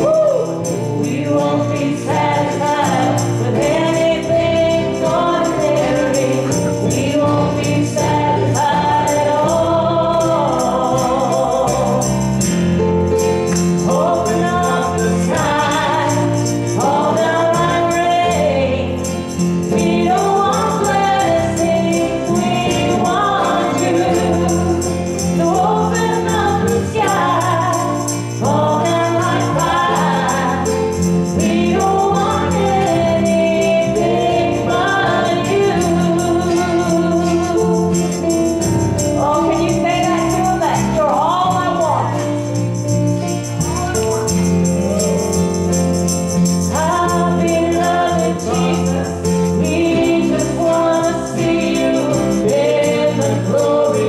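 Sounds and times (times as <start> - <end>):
group singing gospel in harmony: 0.0 - 54.0
instrumental accompaniment: 0.0 - 54.0.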